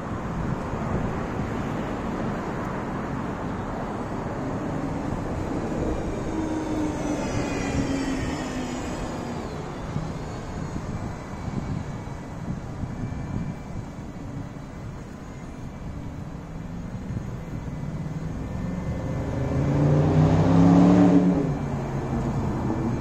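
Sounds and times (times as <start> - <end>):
rumble of passing cars: 0.0 - 23.0
vehicle engine whine passing: 0.0 - 23.0.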